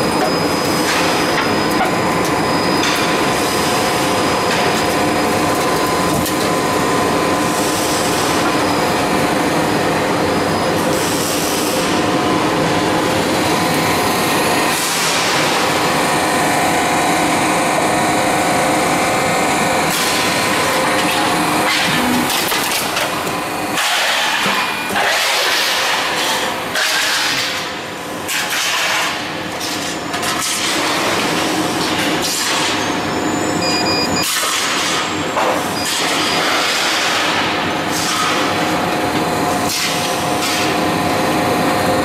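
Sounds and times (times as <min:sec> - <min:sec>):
roll forming machine humming: 0:00.0 - 0:42.0.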